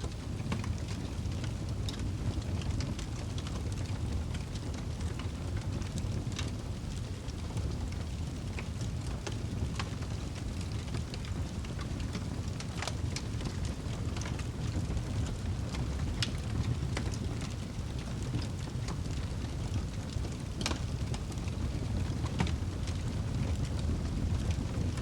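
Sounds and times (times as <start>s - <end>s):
fire crackling and popping: 0.0s - 25.0s
fire rumbling: 0.0s - 25.0s.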